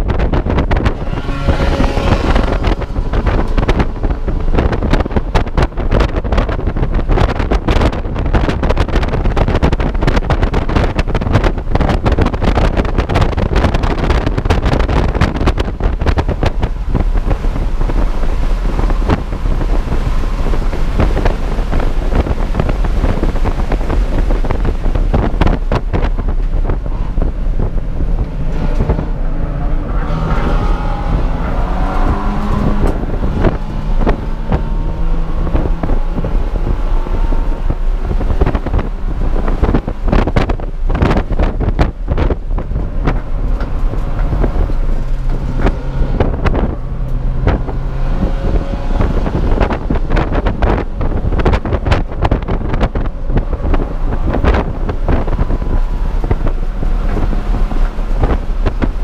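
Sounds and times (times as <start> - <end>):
car engine running under load: 0.0 - 59.0
wind and road noise: 0.0 - 59.0.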